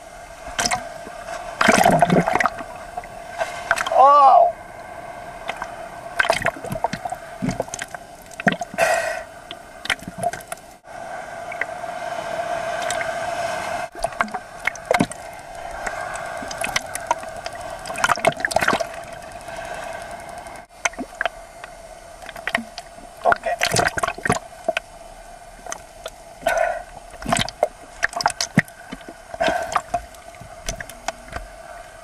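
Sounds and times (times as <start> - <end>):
water splashing and lapping: 0.0 - 4.0, 4.8 - 32.0
steady hum: 0.0 - 32.0.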